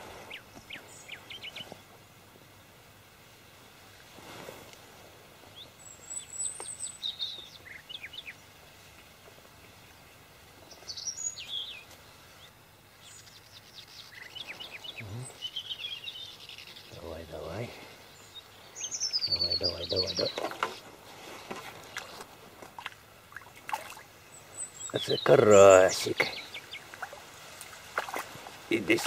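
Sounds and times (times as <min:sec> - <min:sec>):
faint outdoor hiss: 0:00.0 - 0:29.0
small birds chirping: 0:00.0 - 0:29.0.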